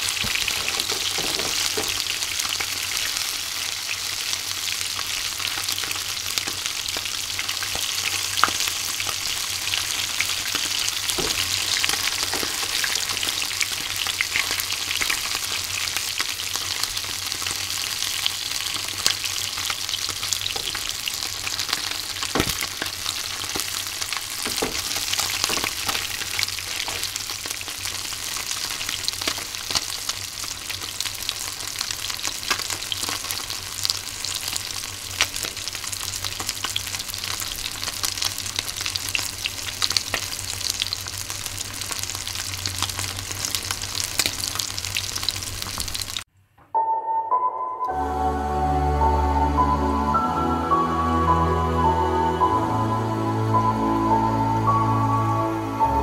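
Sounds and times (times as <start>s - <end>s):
fish deep-frying in oil: 0.0s - 46.2s.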